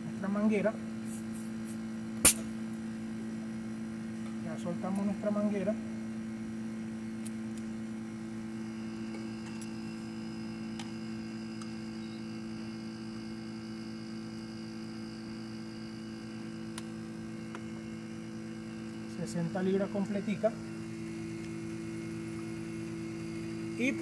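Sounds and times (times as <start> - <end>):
compressor electrical hum: 0.0 - 24.0.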